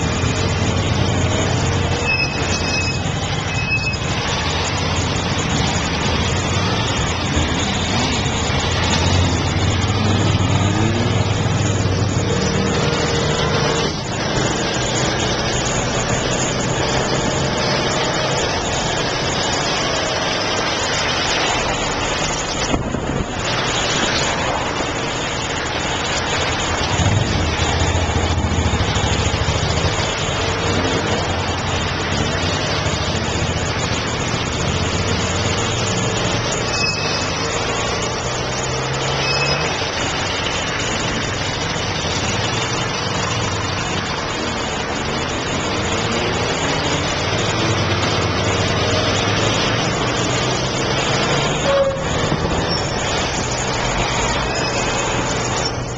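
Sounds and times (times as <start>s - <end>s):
vehicle engines passing: 0.0s - 55.9s
wind and road noise: 0.0s - 55.9s.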